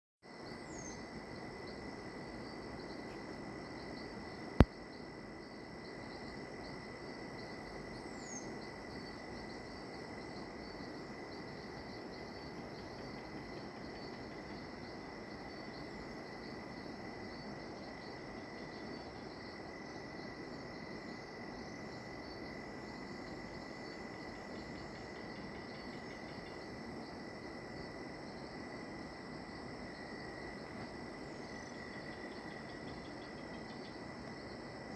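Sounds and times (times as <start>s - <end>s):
insects trilling: 0.3s - 34.9s.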